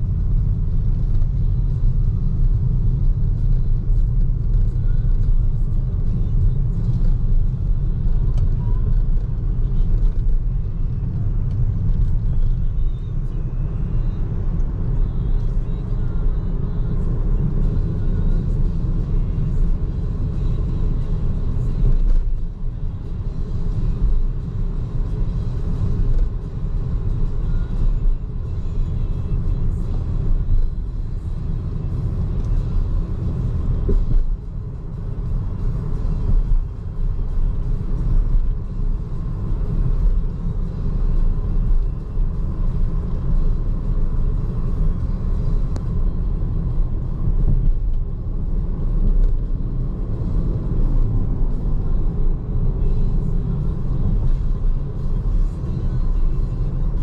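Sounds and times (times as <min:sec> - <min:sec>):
road and tyre noise: 0:00.0 - 0:57.0.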